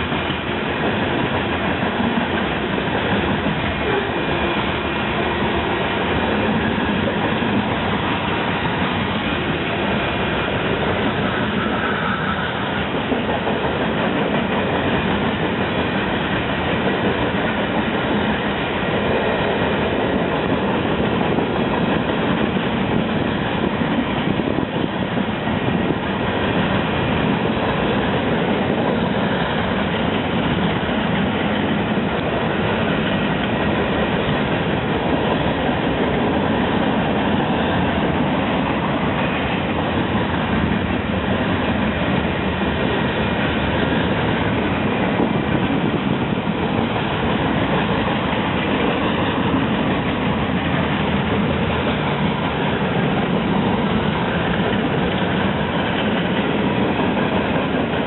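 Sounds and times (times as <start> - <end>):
train cars rolling on tracks: 0.0 - 58.0.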